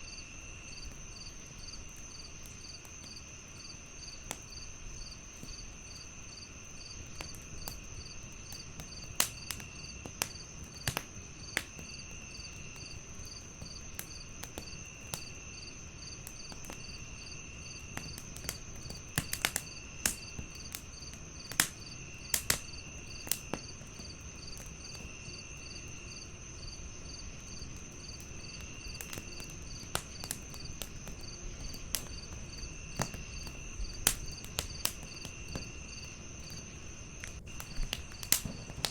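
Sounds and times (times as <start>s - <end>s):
crickets chirping: 0.0s - 38.9s
wood fire crackling and popping: 0.4s - 38.9s.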